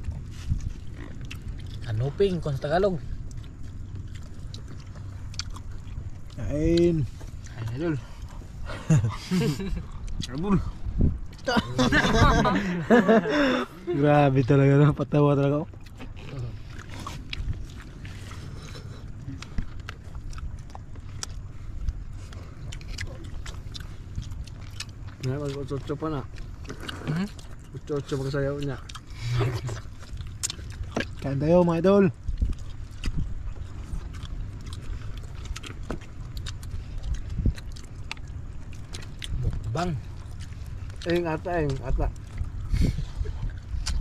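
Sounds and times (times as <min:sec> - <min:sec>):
low steady rumble: 0:00.0 - 0:44.0
people chewing and smacking: 0:00.0 - 0:44.0.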